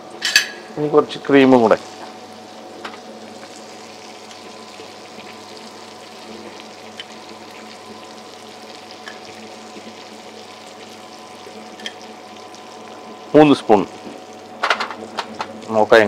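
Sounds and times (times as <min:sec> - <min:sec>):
sauce sizzling in a pan: 0:00.6 - 0:16.0.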